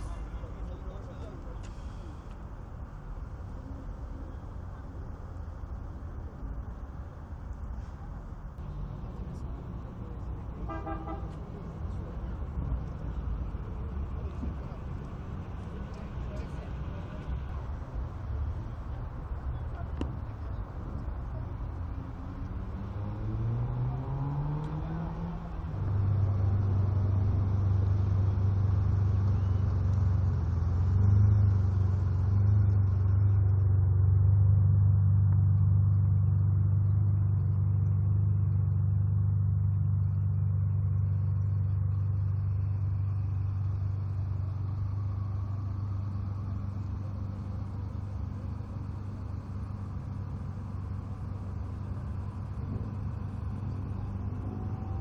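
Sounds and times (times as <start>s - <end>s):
car engine running: 8.3s - 55.0s.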